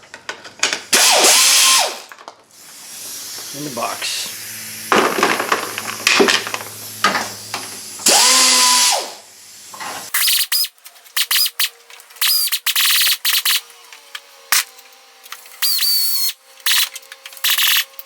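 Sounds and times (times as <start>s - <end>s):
power drill whining: 0.9s - 18.0s.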